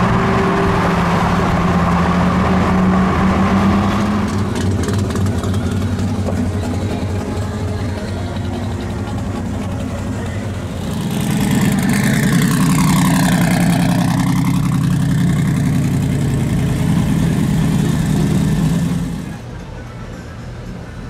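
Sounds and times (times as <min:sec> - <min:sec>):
deep engine rumble driving past: 0:00.0 - 0:19.9
car engines moving off: 0:00.0 - 0:21.0.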